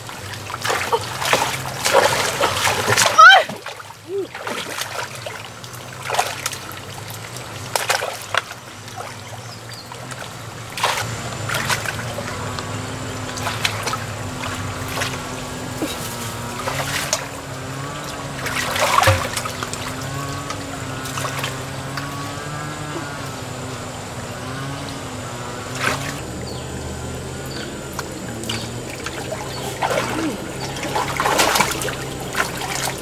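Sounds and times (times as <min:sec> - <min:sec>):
splashing in shallow water: 0:00.0 - 0:33.0
water pump humming: 0:00.0 - 0:33.0.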